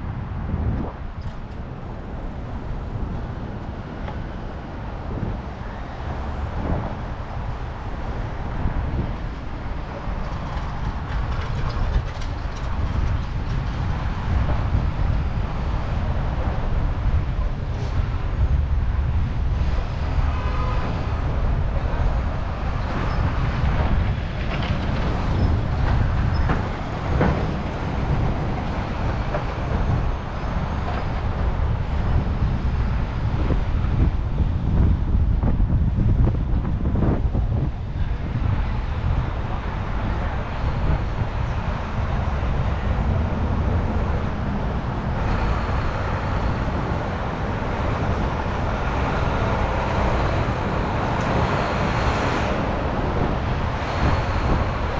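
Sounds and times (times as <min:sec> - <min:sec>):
street noise: 0:00.0 - 0:54.9
wind rushing over microphone: 0:00.0 - 0:54.9.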